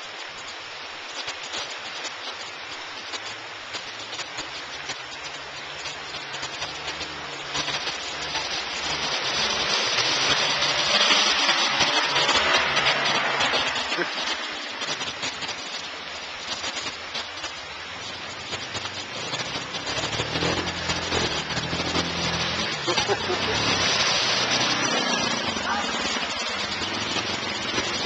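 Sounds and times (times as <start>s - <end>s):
water rushing and splashing: 0.0s - 28.0s
low engine hum: 3.3s - 28.0s.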